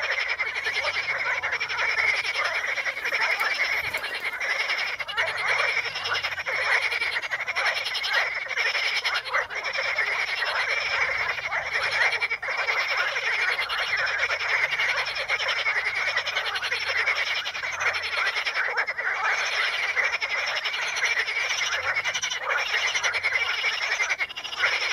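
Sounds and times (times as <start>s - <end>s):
chorus of frogs calling: 0.0s - 24.9s.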